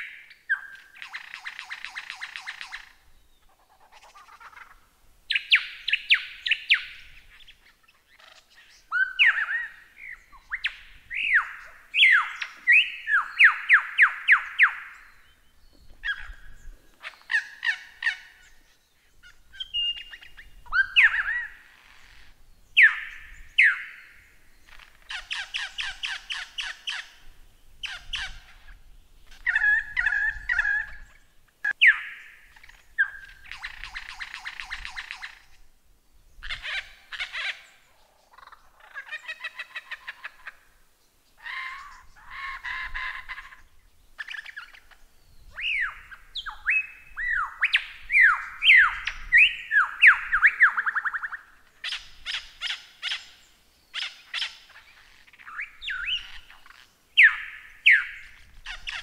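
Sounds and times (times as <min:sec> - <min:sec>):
lyrebird singing mimicked calls: 0:00.0 - 0:35.6, 0:36.4 - 0:40.6, 0:41.4 - 0:59.0.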